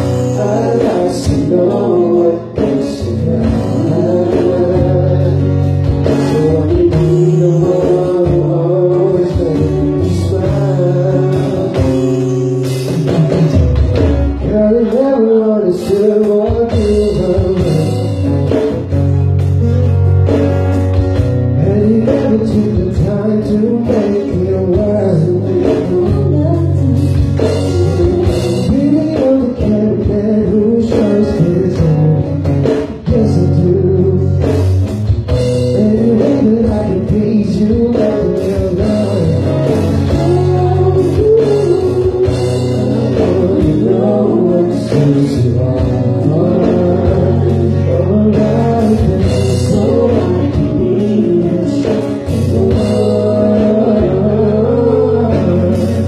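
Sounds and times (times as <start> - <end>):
man singing: 0.0 - 13.4, 14.2 - 18.9, 21.4 - 56.0
bass line: 0.0 - 56.0
drums with steady beat: 0.0 - 56.0
guitar: 0.0 - 56.0.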